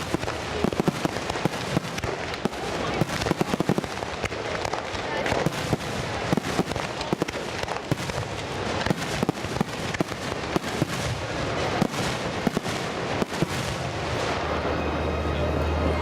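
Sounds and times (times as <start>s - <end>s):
fireworks bangs and crackles: 0.0s - 16.0s
noisy background: 0.0s - 16.0s.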